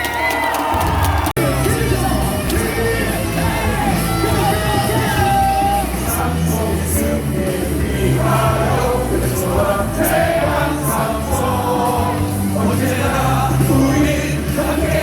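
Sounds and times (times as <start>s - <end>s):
loud amplified music: 0.1s - 15.0s
crowd singing in unison: 1.4s - 15.0s.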